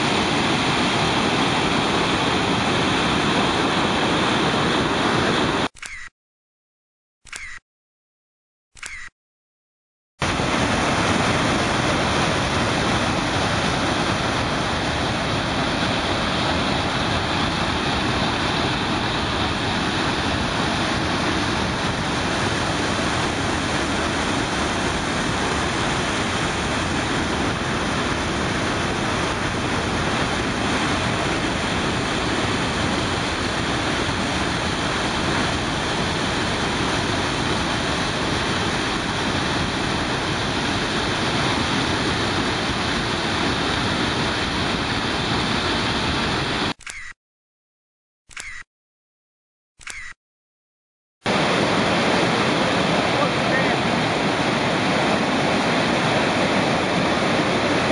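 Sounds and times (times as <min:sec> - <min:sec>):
waterfall rushing: 0:00.0 - 0:05.6, 0:10.2 - 0:46.4, 0:51.3 - 0:57.9.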